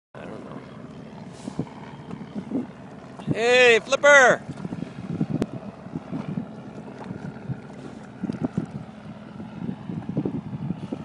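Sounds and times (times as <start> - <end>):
wind buffeting microphone: 0.2 - 11.0.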